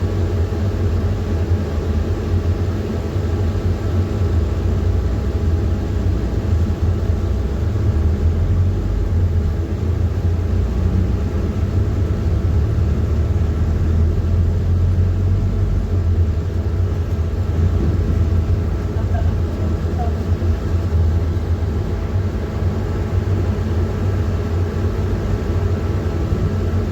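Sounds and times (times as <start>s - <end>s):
bus engine drone: 0.0s - 26.9s.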